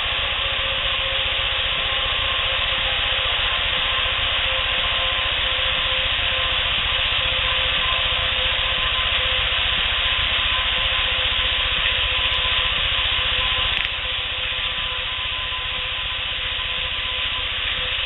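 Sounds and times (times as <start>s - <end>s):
faint hum: 0.0s - 18.0s
steady hiss: 0.0s - 18.0s.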